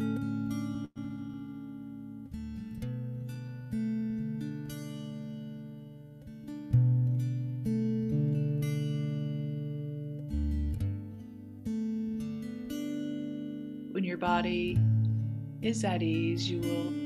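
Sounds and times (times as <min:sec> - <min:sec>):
slow acoustic guitar music: 0:00.0 - 0:17.0.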